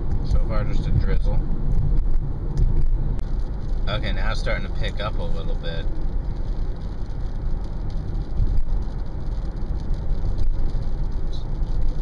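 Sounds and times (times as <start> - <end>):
car driving at highway speed: 0.0 - 12.0.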